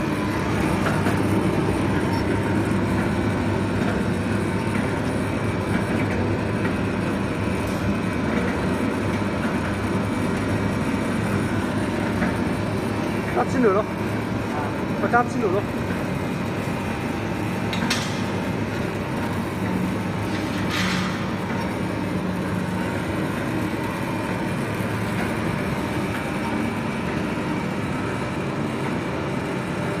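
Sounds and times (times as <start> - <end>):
coffee grinding mill rumbling: 0.0 - 29.0.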